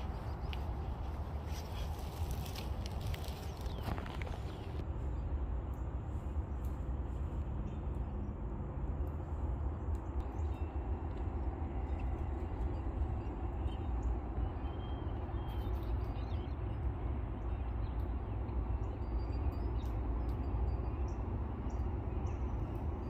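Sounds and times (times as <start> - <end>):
songbirds chirping and calling: 0.0 - 8.4, 9.7 - 23.0
low outdoor rumble: 0.0 - 23.0.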